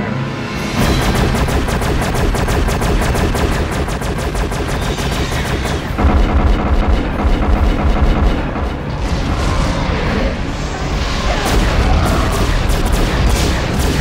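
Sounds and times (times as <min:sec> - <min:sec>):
dramatic music score: 0:00.0 - 0:14.0
rapid weapons fire: 0:00.8 - 0:10.4, 0:11.3 - 0:14.0
heavy low rumble: 0:00.8 - 0:13.2
booming explosions: 0:00.8 - 0:14.0.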